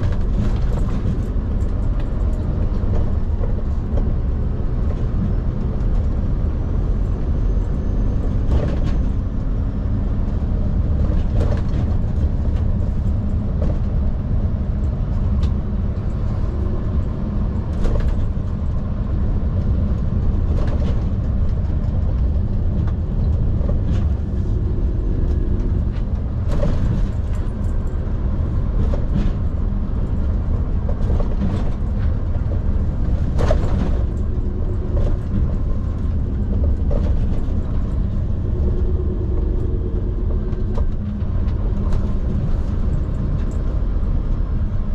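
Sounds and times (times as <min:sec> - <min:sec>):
truck diesel engine rumbling: 0:00.0 - 0:44.9.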